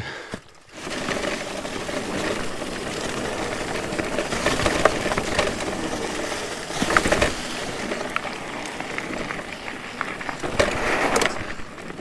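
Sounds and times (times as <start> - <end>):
bike tyres on rough trail: 0.0 - 12.0
bike knocking and rattling: 0.2 - 12.0.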